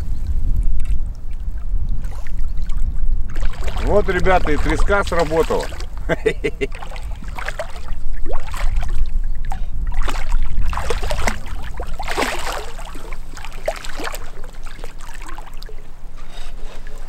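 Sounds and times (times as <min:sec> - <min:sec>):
fish thrashing and splashing: 0:00.8 - 0:15.9.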